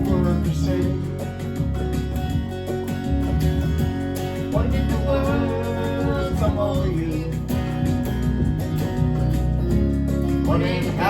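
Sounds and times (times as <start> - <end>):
guitar strumming: 0.0 - 11.0.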